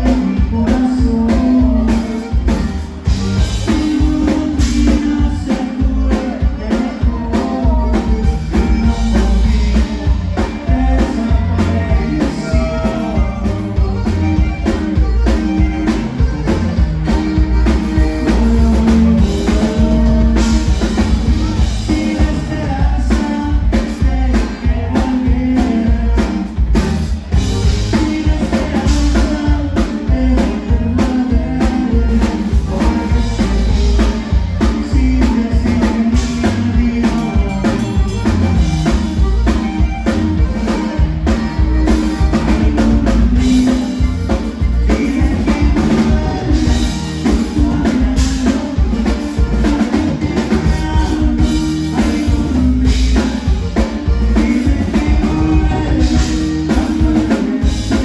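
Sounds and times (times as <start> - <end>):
bass guitar: 0.0 - 58.0
button accordion melody: 0.0 - 58.0
drum kit: 0.0 - 58.0
man singing: 0.0 - 58.0.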